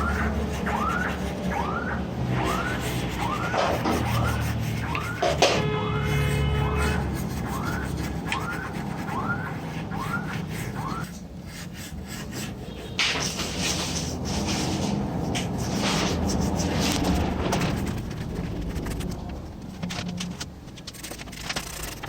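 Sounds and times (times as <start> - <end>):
scrubbing strokes: 0.0 - 19.7
steady low hum: 0.0 - 22.0.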